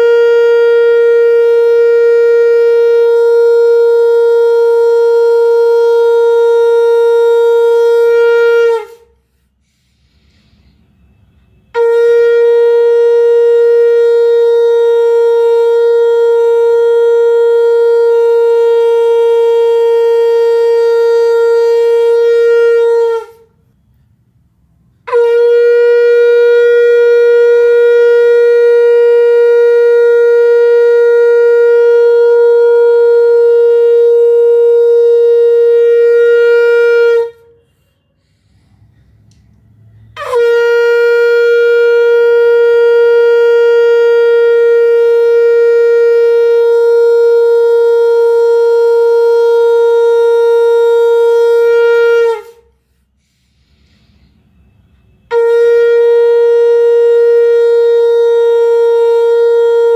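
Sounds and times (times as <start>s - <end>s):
conch shell blasts: 0.0s - 23.9s, 24.8s - 59.9s.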